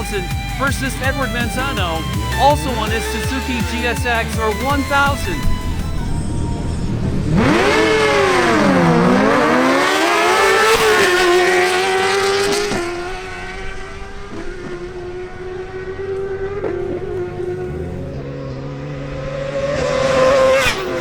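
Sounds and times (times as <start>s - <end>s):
motorcycles accelerating at full throttle: 0.0s - 21.0s.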